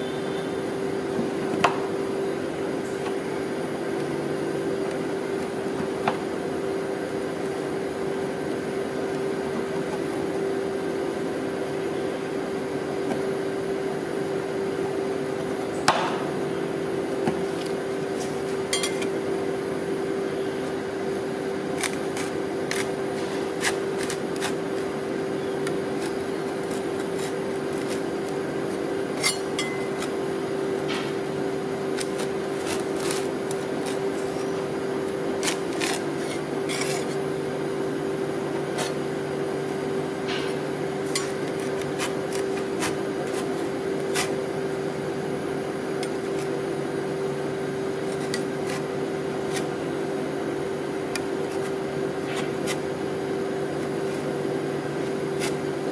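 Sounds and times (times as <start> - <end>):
machine hum: 0.0 - 55.9.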